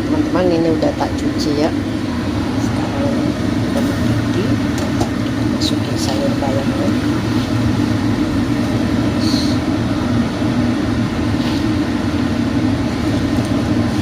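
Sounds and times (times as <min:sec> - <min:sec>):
stove rumble: 0:00.0 - 0:14.0
water boiling in a pot: 0:00.0 - 0:14.0.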